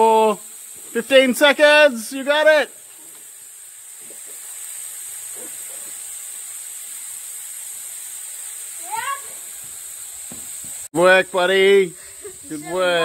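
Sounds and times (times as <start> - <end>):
insects chorus shrill hiss: 0.0 - 13.0.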